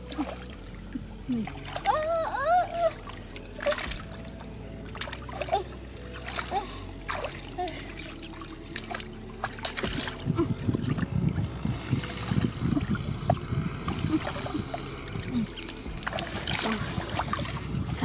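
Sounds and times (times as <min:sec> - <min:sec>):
muddy water sloshing and splashing: 0:00.0 - 0:18.0.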